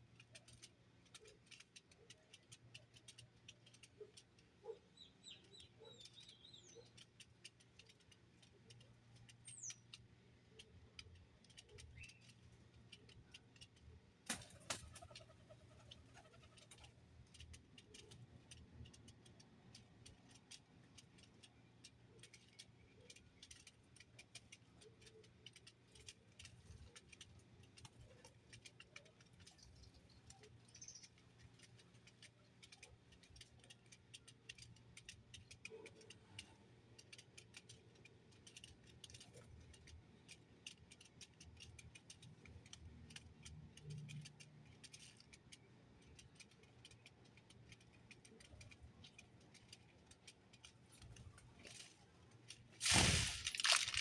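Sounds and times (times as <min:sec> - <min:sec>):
faint small clicks: 0:00.0 - 0:54.0.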